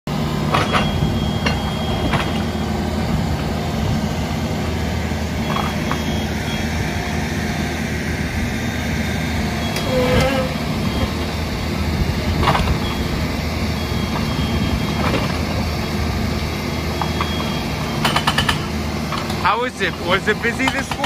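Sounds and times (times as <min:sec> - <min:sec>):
large engine idling: 0:00.1 - 0:21.0.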